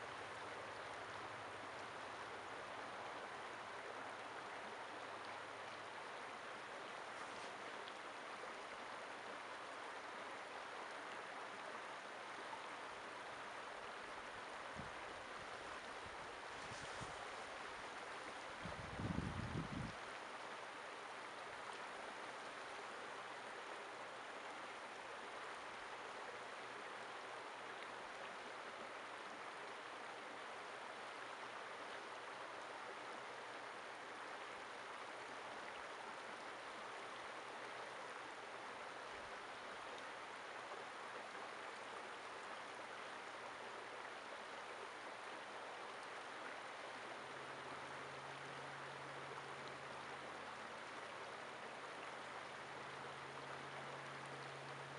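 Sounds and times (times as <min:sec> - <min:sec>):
creek running over rocks: 0:00.0 - 0:54.9.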